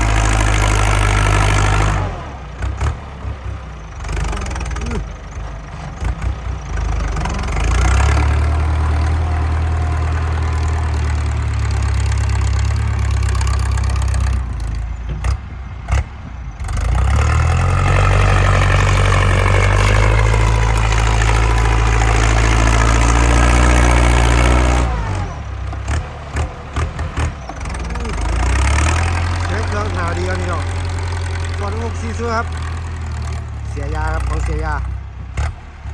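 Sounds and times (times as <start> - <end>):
tractor engine under load: 0.0 - 35.9.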